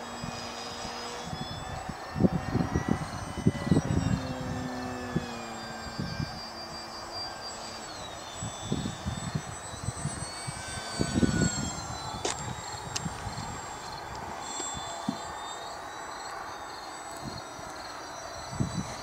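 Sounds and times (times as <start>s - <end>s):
wind on microphone: 0.0s - 15.4s, 17.1s - 19.0s
model plane motor whining: 0.0s - 19.0s.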